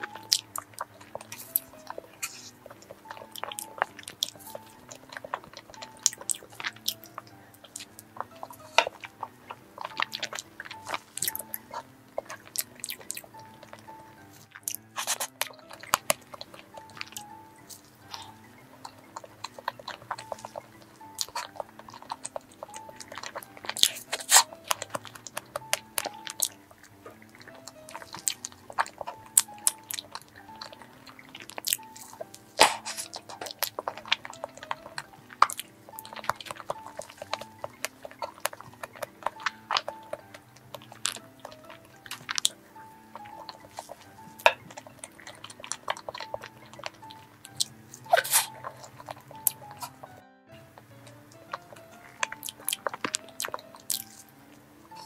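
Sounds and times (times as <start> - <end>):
wet mouth clicks: 0.0 - 50.2, 50.8 - 54.3
chewing: 0.0 - 55.0
quiet background music: 0.0 - 55.0.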